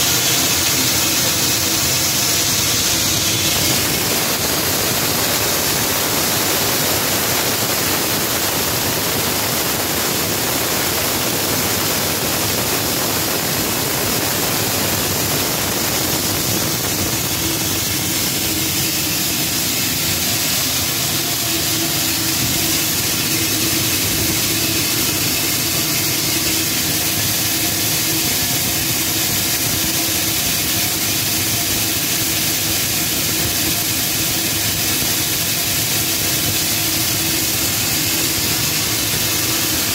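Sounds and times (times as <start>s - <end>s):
grain mill running: 0.0s - 39.9s.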